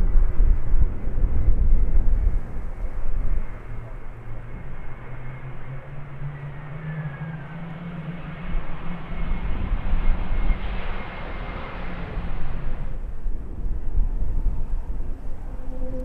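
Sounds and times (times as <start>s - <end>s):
jet engines passing: 0.0s - 15.6s.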